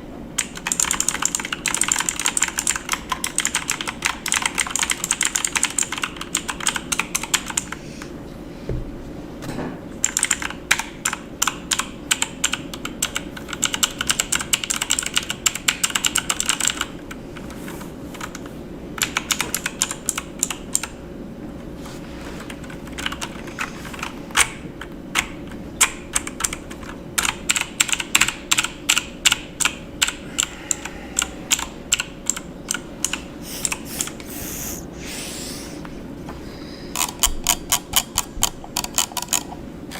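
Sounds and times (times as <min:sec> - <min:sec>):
keyboard typing: 0:00.4 - 0:07.8, 0:10.0 - 0:20.9, 0:22.4 - 0:34.2, 0:37.0 - 0:39.6.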